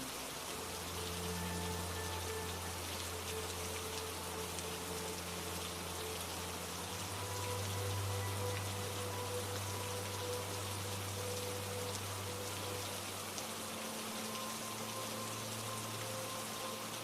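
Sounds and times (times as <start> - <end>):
faint low tones: 0.0 - 17.0
steady rain: 0.0 - 17.0.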